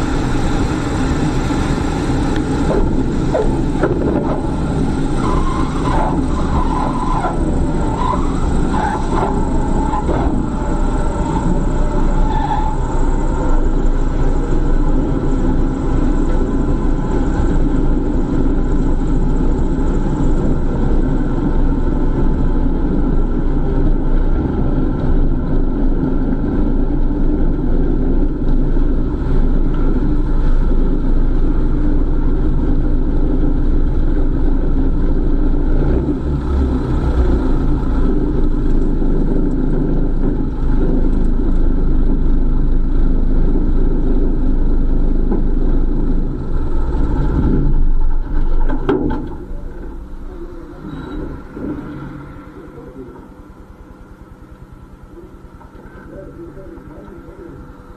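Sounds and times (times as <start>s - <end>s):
light aircraft engine and propeller: 0.0s - 57.9s.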